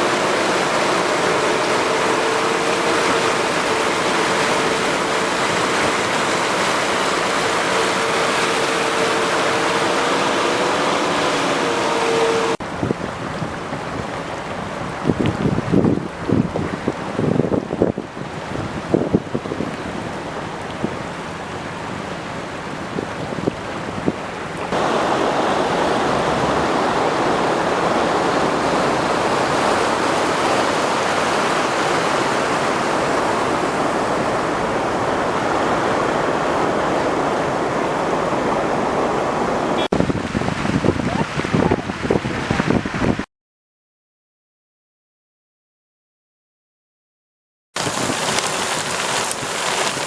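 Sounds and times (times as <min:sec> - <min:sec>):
gusty wind buffeting microphone: 0:00.0 - 0:21.2, 0:21.8 - 0:43.3
flood water rushing: 0:00.0 - 0:43.3, 0:47.8 - 0:50.0.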